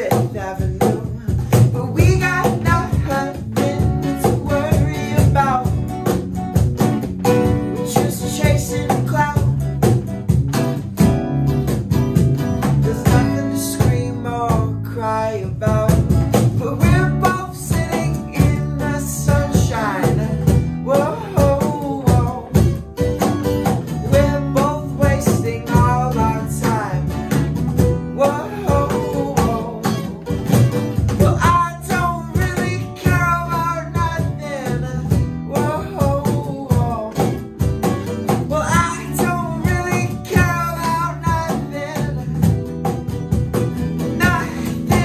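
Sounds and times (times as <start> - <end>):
man singing: 0.0 - 6.2, 7.2 - 10.0, 12.6 - 22.8, 23.8 - 37.7, 38.3 - 42.7, 43.8 - 45.0
cajon beat: 0.0 - 45.0
electric bass: 0.0 - 45.0
strummed acoustic guitars: 0.0 - 45.0.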